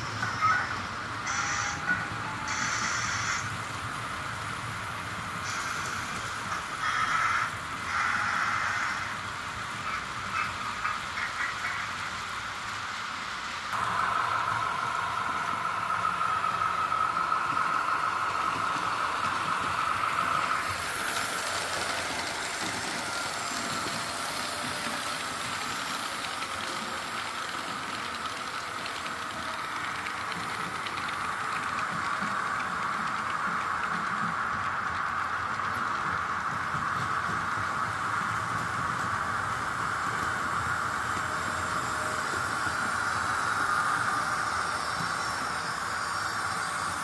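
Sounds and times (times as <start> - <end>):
model train motor whine: 0.0 - 11.3, 11.9 - 47.0
wheel noise on track: 0.0 - 47.0.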